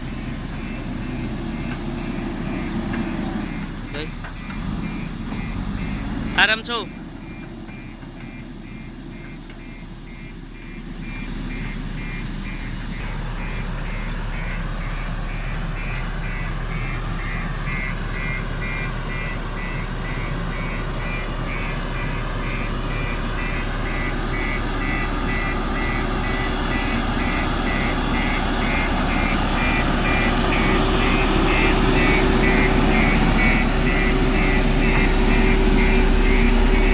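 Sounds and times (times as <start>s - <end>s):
diesel engine working under load: 0.0s - 36.9s
machine warning beeper: 0.0s - 36.9s.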